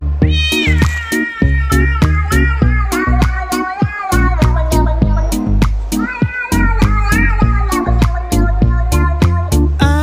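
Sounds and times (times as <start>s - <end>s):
music with drums and bass: 0.1s - 10.0s.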